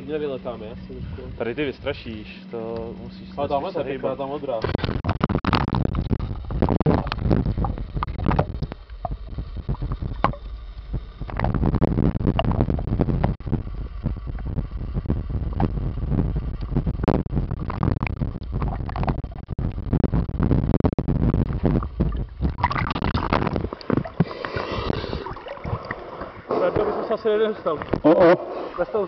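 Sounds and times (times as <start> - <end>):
underwater knocks and clicks: 4.6 - 28.2
low underwater rumble: 4.7 - 29.0.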